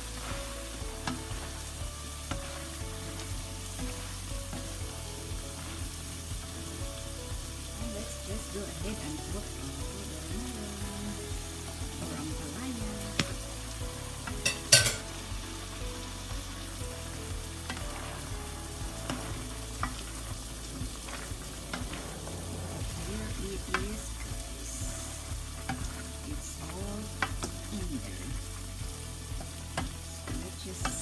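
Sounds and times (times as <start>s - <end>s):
vegetables sizzling in a frying pan: 0.0s - 31.0s.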